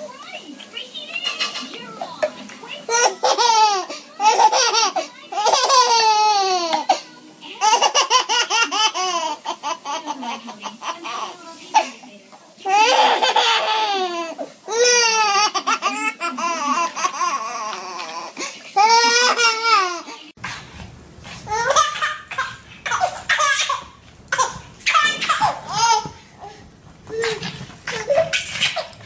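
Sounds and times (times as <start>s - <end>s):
baby laughing: 1.0s - 2.2s, 2.8s - 11.9s, 12.7s - 20.2s, 21.5s - 29.0s.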